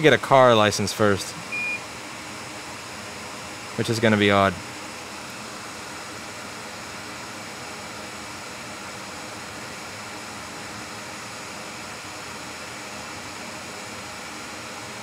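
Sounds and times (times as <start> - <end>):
steady fan-like hiss: 0.0 - 15.0.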